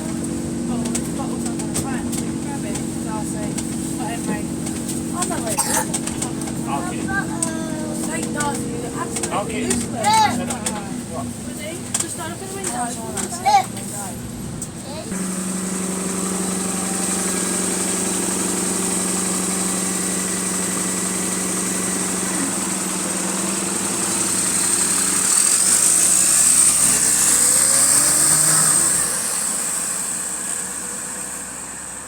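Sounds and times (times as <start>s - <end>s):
bus engine running: 0.0s - 32.0s.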